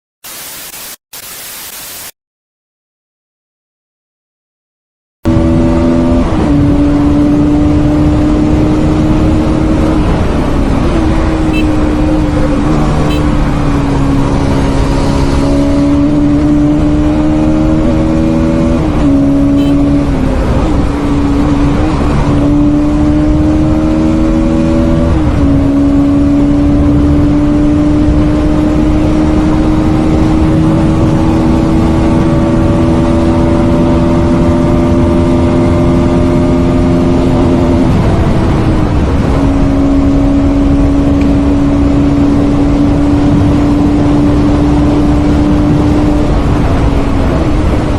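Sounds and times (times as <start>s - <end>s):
wind and road noise: 5.2s - 47.9s
motorcycle engine revving: 5.3s - 47.9s.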